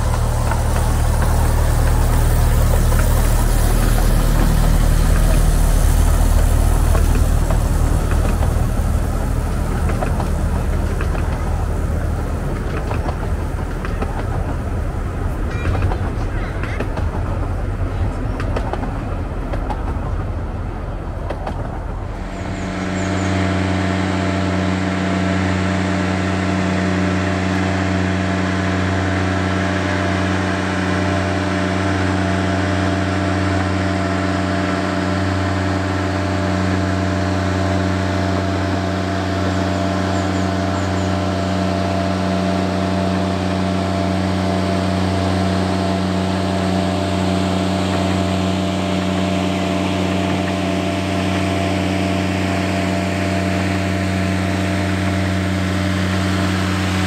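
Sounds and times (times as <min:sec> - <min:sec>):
diesel locomotive engine humming: 0:00.0 - 0:57.0
train carriages rumbling on track: 0:00.0 - 0:57.0.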